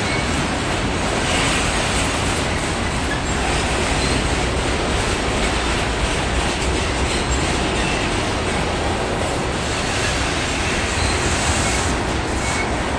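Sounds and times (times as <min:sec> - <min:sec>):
freight train wheels on rails: 0:00.0 - 0:12.9.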